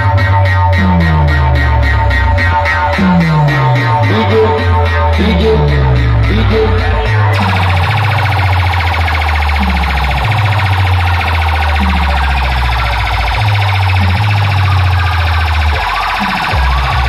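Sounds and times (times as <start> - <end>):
deep heavy bass notes: 0.0 - 17.0
downward-sliding bass drops: 0.0 - 17.0
warbling siren-like tone: 0.0 - 17.0.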